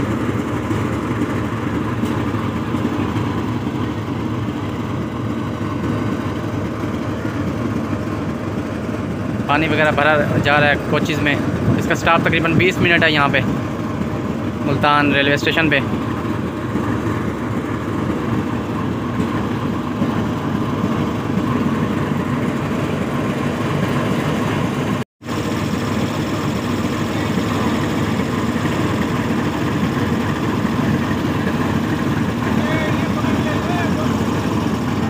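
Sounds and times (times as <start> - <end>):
diesel locomotive engine idling: 0.0 - 35.0.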